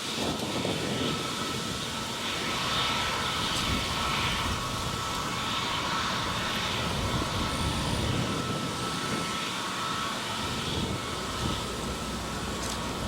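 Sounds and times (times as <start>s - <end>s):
jet engine roar: 0.0s - 13.0s
thin steady whine: 0.0s - 13.0s.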